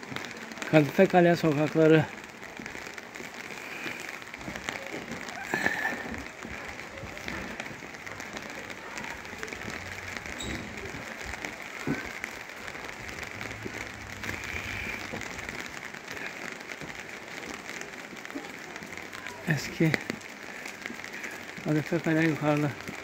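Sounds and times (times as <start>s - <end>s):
rain hissing on street: 0.0s - 23.0s.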